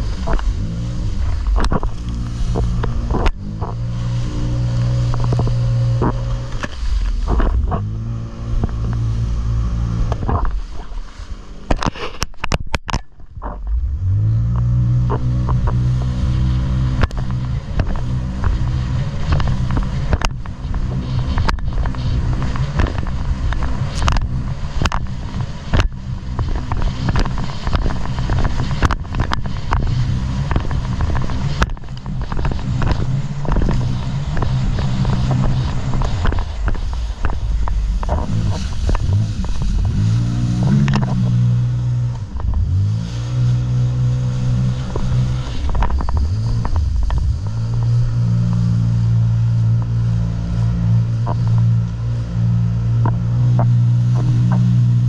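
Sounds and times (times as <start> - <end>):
jet ski engine: 0.0 - 55.0.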